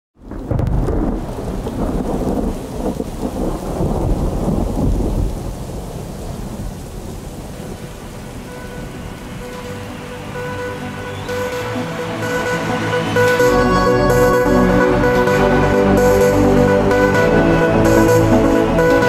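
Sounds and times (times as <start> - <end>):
steady rain: 0.2 - 19.0
thunder rumbling: 0.2 - 19.0.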